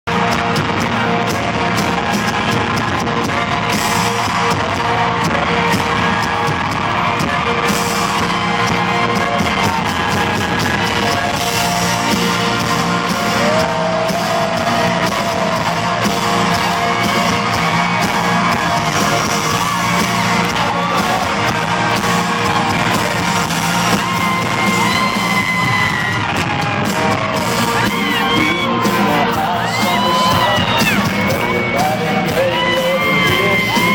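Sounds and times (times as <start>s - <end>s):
crowd yelling and whooping: 0.1s - 33.9s
live country band playing: 0.1s - 33.9s.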